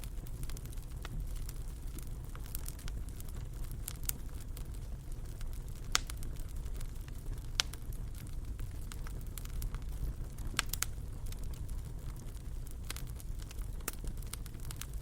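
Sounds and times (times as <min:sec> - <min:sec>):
fireplace fire crackling and popping: 0:00.0 - 0:15.0.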